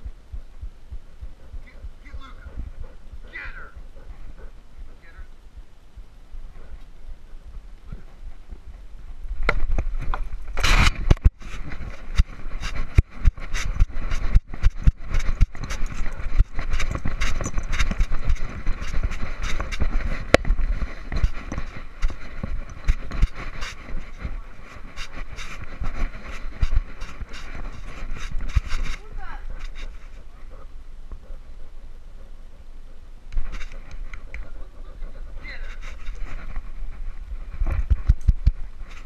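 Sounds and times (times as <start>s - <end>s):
steady rumble: 0.0s - 39.0s.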